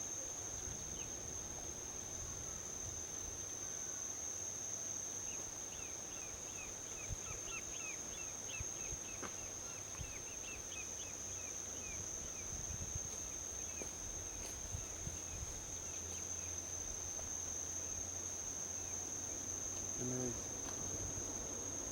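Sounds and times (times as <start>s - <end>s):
insects trilling: 0.0s - 21.9s.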